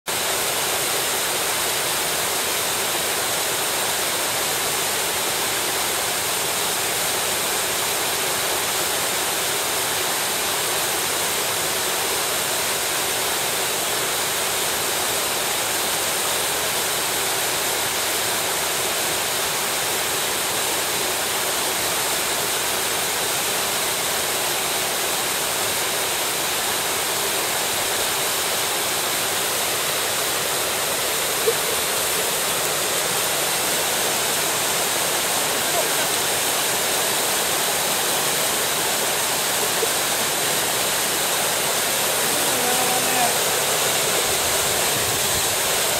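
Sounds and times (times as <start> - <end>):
stream rushing over rocks: 0.1 - 45.9.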